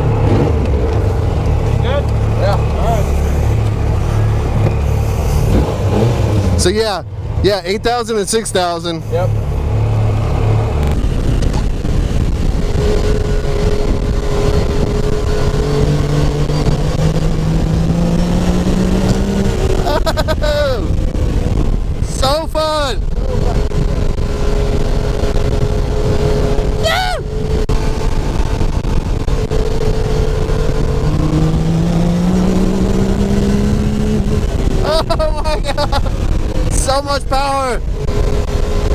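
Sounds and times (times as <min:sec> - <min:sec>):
engine running hard: 0:00.0 - 0:38.9.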